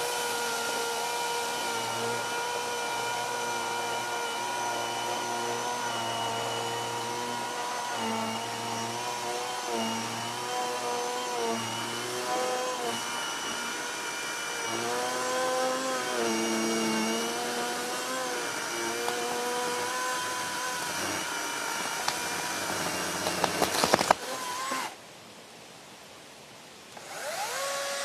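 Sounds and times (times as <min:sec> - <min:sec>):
electric chainsaw motor whine: 0:00.0 - 0:25.0, 0:27.0 - 0:28.0.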